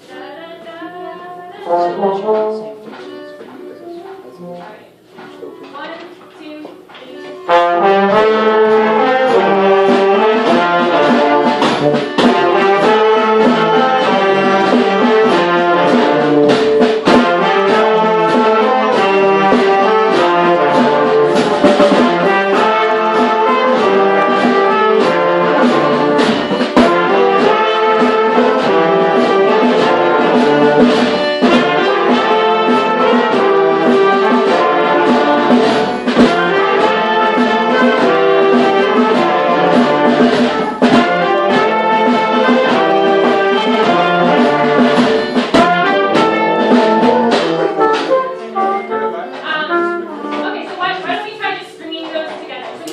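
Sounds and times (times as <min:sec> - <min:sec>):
trumpets and trombones: 0:01.5 - 0:05.7, 0:07.1 - 0:52.9
drum hits: 0:07.4 - 0:52.9.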